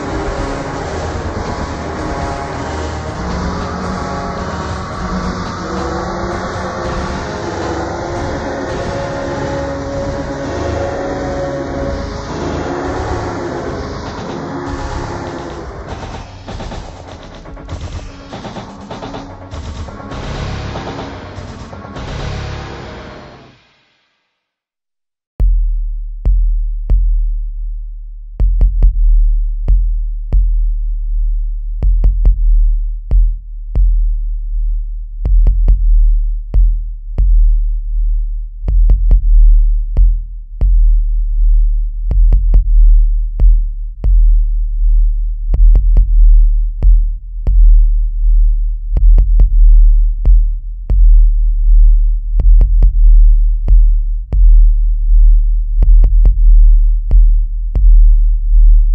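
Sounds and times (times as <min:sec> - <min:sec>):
industrial techno with deep kick: 0:00.0 - 0:23.9, 0:25.4 - 0:58.9.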